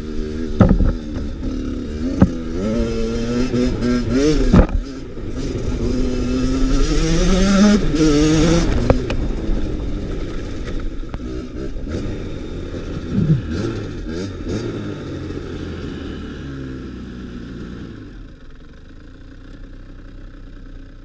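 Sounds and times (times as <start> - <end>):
motorcycle engine revving and idling: 0.0 - 21.0.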